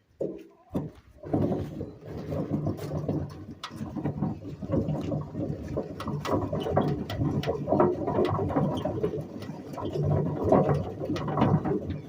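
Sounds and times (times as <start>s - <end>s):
wagon body rattling: 0.0s - 12.0s
wagon wheels rumbling: 0.0s - 12.0s.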